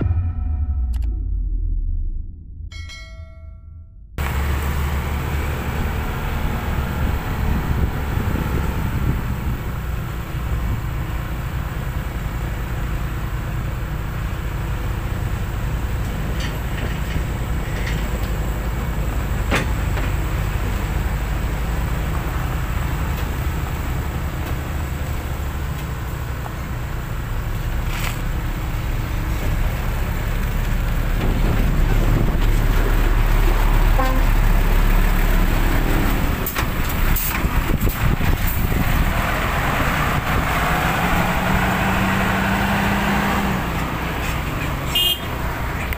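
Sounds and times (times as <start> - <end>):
diesel trucks driving past: 4.2 - 45.9.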